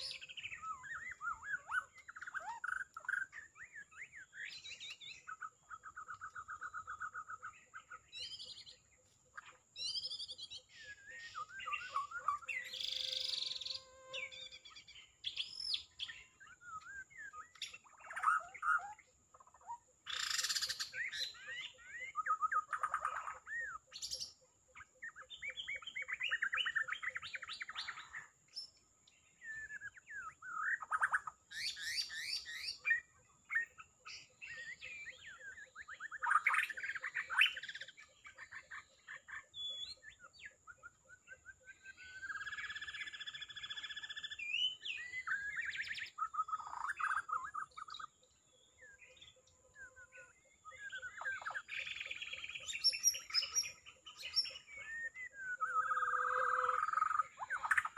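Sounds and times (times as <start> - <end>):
bird singing whistled phrases: 0.0 - 8.8, 9.8 - 28.8, 29.4 - 57.9.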